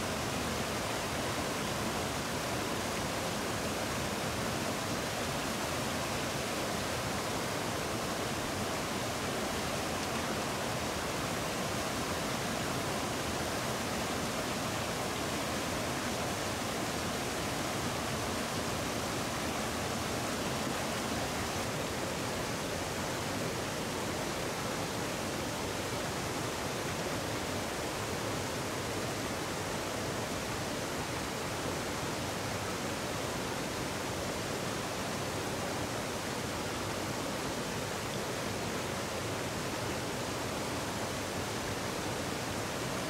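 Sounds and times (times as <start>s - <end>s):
stream running over rocks: 0.0s - 43.0s.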